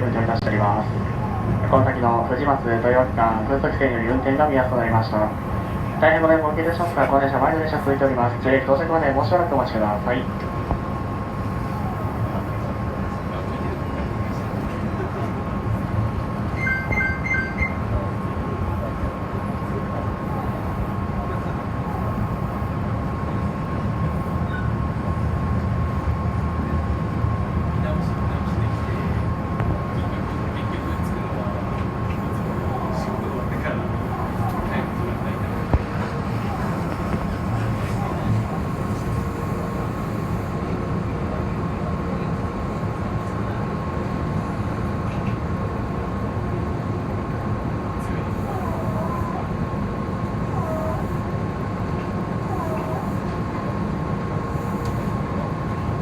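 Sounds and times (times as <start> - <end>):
train car rumble and hum: 0.0 - 56.0.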